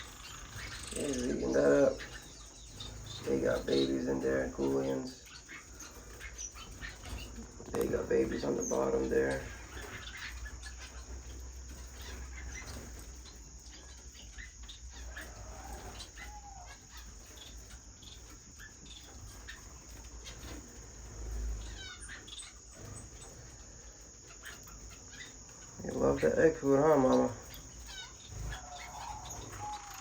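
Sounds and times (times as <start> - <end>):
finches chirping: 0.0 - 30.0
steady high-pitched hiss: 0.0 - 30.0.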